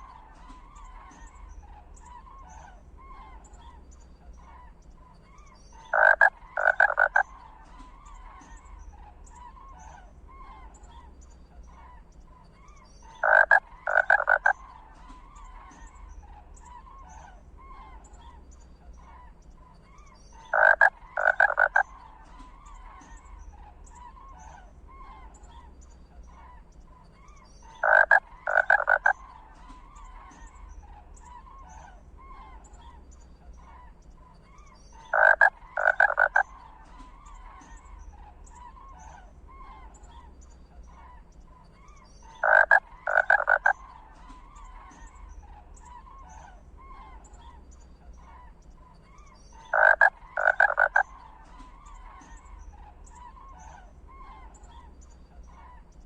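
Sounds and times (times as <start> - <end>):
faint chorus of animal calls: 0.0 - 56.0.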